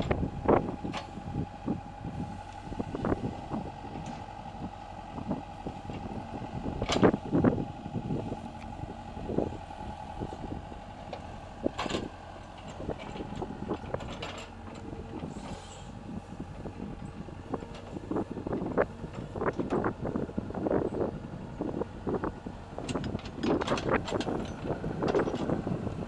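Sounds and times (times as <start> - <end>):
diesel engine running: 0.0 - 26.0
hydraulic whine: 0.0 - 26.0.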